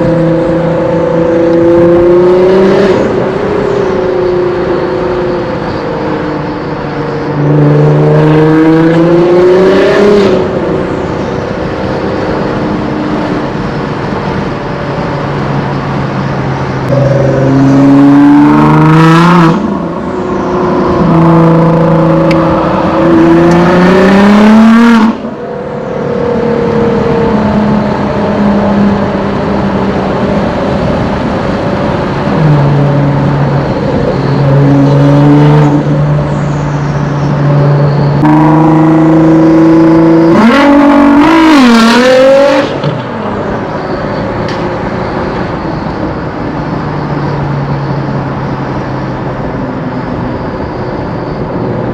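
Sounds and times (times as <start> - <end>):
car engine revving: 0.0 - 49.6.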